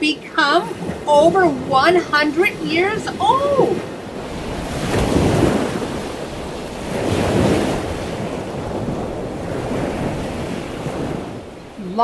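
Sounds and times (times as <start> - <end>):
ocean waves rushing: 0.0 - 12.0.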